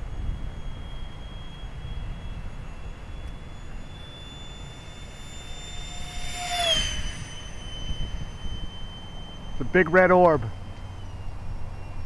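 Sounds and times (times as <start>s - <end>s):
electric ducted fan whine: 0.0s - 12.0s.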